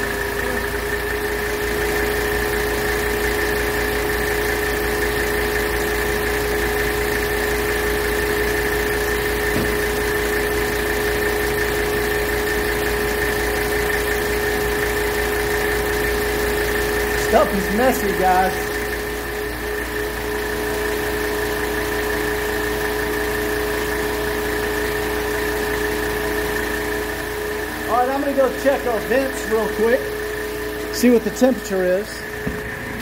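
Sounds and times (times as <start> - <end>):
cooling fan whine: 0.0 - 33.0
diesel engine idling: 0.0 - 33.0.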